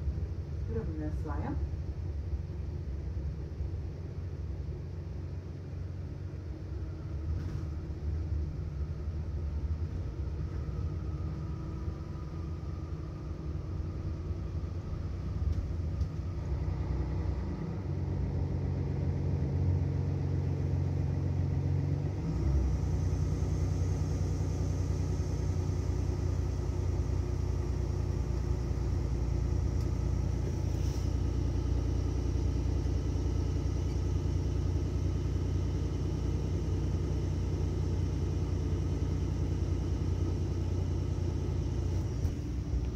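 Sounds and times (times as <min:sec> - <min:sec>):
bus engine humming: 0:00.0 - 0:42.9.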